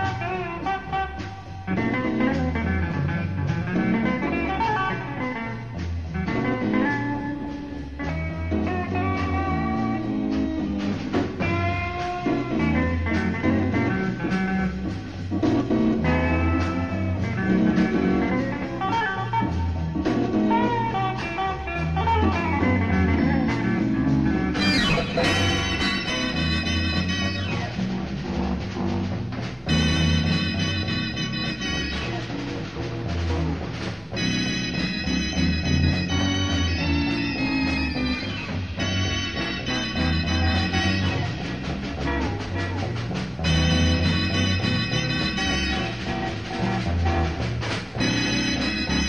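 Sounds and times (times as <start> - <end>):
bass guitar: 0.0 - 49.0
drums: 0.0 - 49.0
electric lead guitar: 0.0 - 49.0
organ: 0.0 - 49.0.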